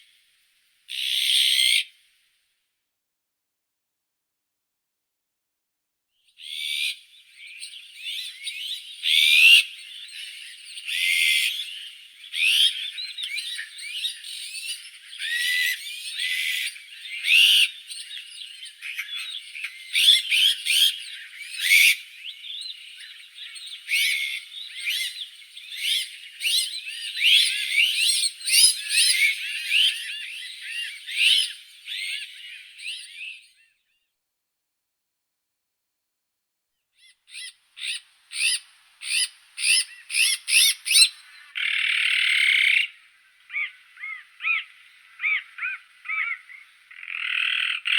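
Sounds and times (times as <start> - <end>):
magpies calling: 0.9 - 1.9, 6.4 - 33.5, 37.0 - 47.9.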